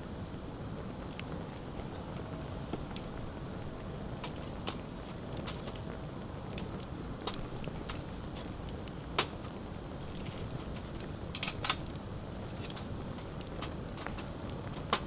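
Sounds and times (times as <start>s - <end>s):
sharp pops of fire: 0.0s - 15.0s
wood fire crackling: 0.0s - 15.0s.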